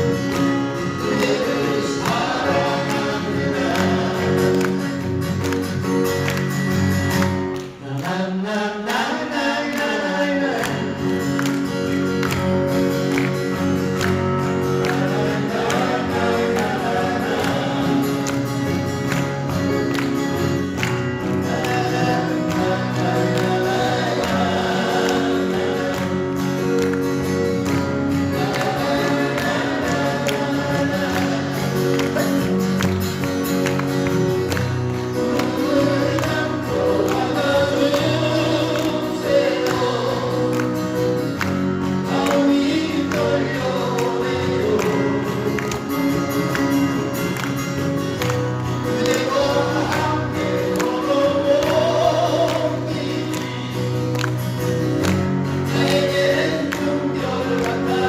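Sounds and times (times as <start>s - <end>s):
male vocal group harmonizing: 0.0s - 5.2s, 7.6s - 13.0s, 13.7s - 32.9s, 34.6s - 47.2s, 48.3s - 58.0s
strummed acoustic guitars: 0.0s - 58.0s.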